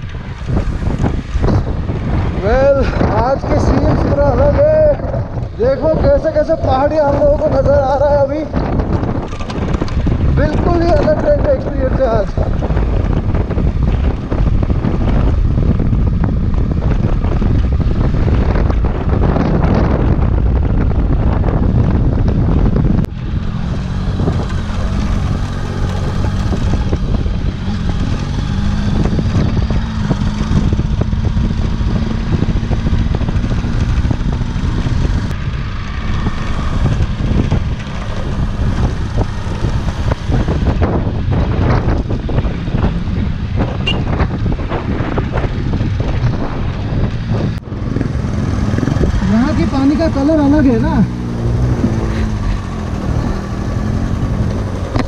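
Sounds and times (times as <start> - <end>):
motorcycle engine cruising: 0.0 - 55.0
wind on microphone: 0.0 - 55.0.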